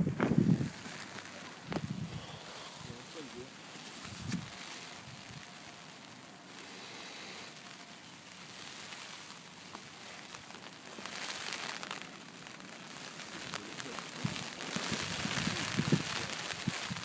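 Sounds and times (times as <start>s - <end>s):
faint crackles: 0.0s - 17.0s
light rain and wind hiss: 0.0s - 17.0s.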